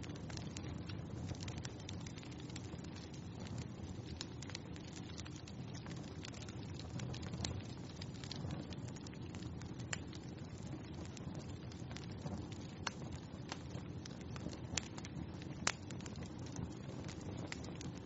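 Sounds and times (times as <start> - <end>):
fire low rumble: 0.0 - 18.0
fire pops and snaps: 0.0 - 18.0.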